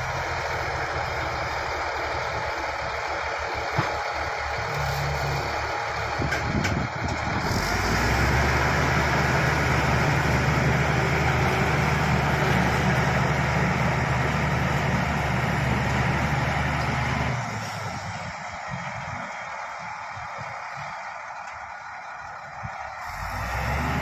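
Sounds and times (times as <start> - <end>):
bulldozer diesel engine under load: 0.0 - 24.0.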